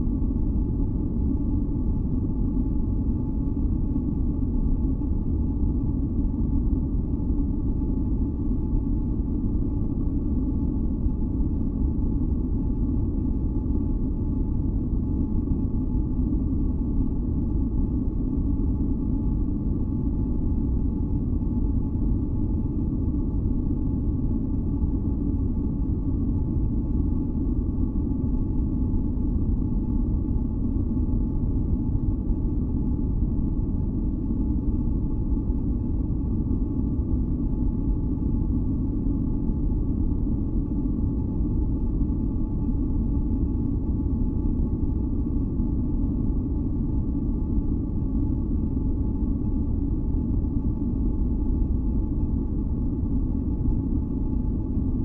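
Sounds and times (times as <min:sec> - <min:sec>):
deep rumbling white noise: 0:00.0 - 0:55.0.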